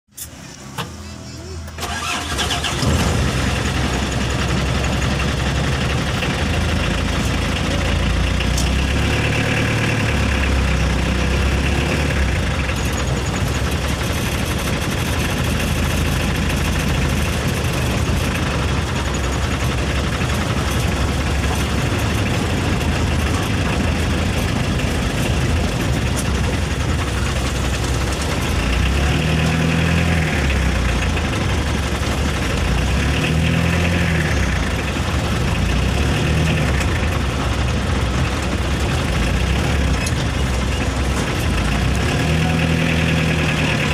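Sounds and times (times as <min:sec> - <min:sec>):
engine-like rumble: 0:00.1 - 0:43.9.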